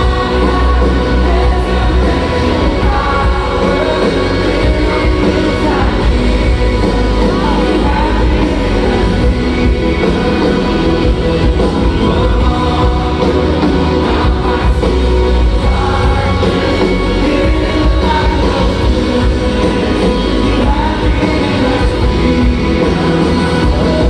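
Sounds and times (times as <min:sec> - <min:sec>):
rock song with singing: 0:00.0 - 0:24.0.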